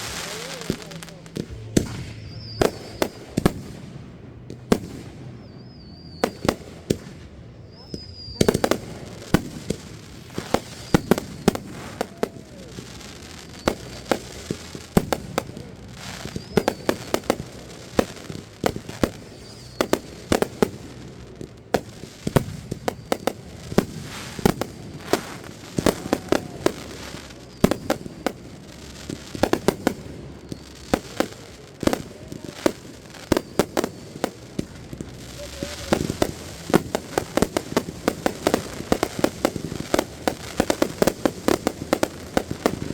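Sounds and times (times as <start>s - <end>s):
fireworks bangs and crackles: 0.0s - 42.9s
fireworks whistle: 0.0s - 42.9s.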